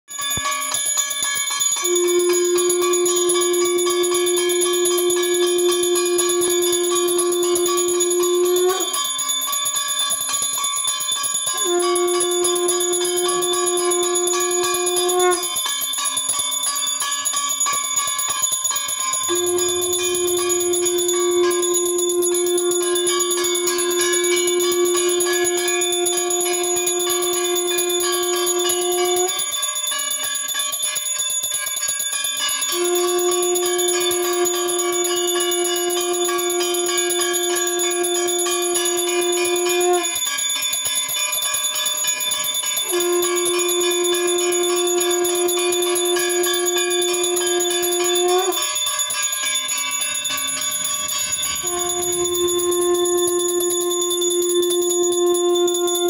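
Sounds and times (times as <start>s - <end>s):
loud steady blown note: 0.1s - 9.6s, 10.2s - 30.2s, 32.4s - 56.0s
hand bell ringing rapidly: 0.1s - 56.0s.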